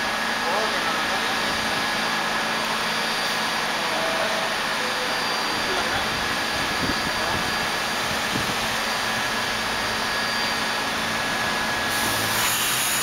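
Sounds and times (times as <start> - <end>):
train ventilation hiss with whine: 0.0 - 13.0.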